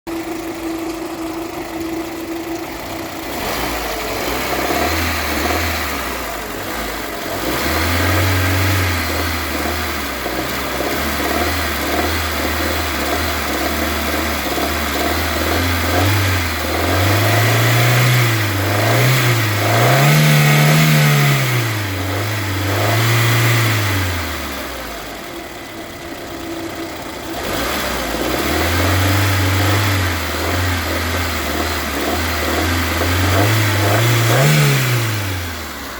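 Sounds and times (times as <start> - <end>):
car engine idling and revving: 0.1 - 35.9.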